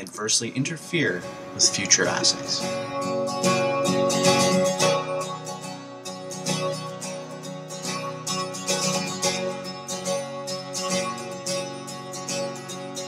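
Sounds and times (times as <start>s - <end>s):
strummed guitar: 0.0s - 13.0s
held notes: 0.5s - 12.0s.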